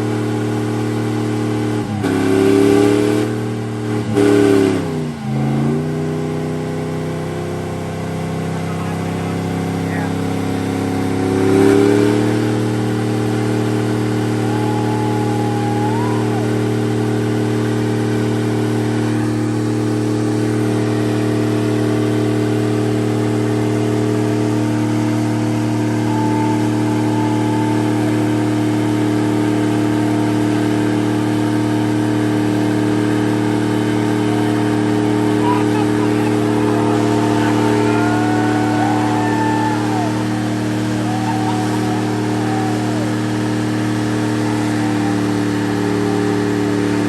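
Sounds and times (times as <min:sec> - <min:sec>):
vehicle engine revving: 0:00.0 - 0:47.0.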